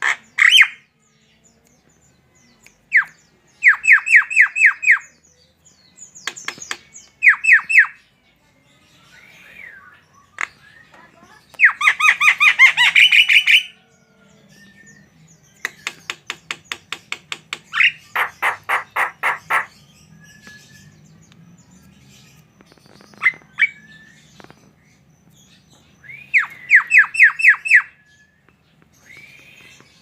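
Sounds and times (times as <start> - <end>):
bird harsh chattering song: 0.0 - 1.0, 2.4 - 8.1, 8.9 - 13.8, 14.8 - 30.0.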